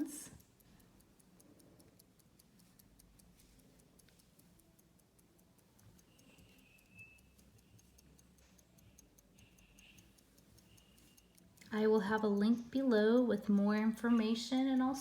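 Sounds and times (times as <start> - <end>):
pocket watch ticking: 0.0 - 15.0.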